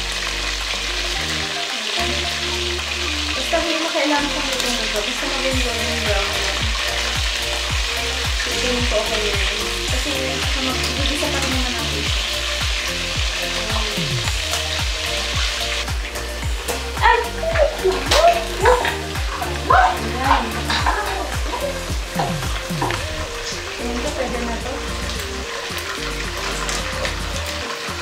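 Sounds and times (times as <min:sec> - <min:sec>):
chicken sizzling in oil: 0:00.0 - 0:28.0.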